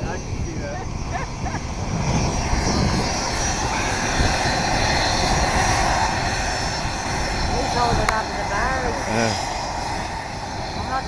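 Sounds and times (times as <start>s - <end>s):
jet engines roaring: 0.0s - 11.0s
wind buffeting microphone: 0.0s - 11.0s.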